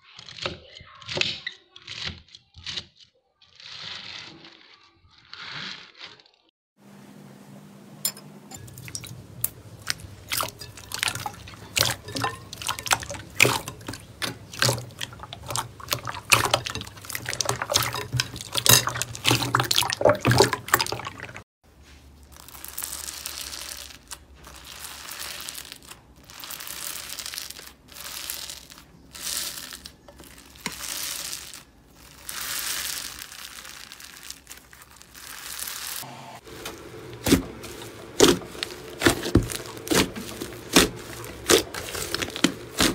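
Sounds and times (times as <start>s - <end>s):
fluffy slime crackling: 1.9s - 6.5s, 8.7s - 42.9s.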